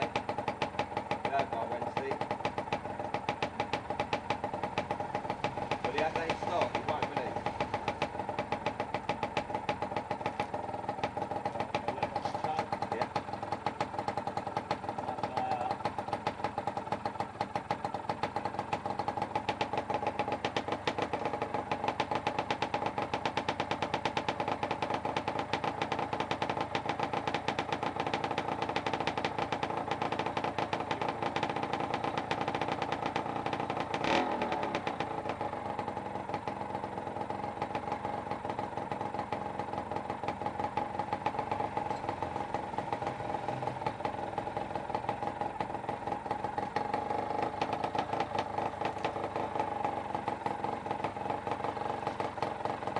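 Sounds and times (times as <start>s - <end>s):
two-stroke engine idling: 0.0s - 52.9s.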